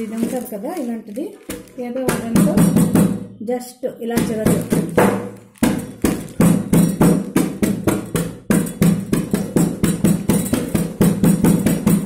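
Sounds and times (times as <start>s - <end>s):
pounder crushing brittle in a bag: 0.0s - 3.2s, 4.2s - 12.0s.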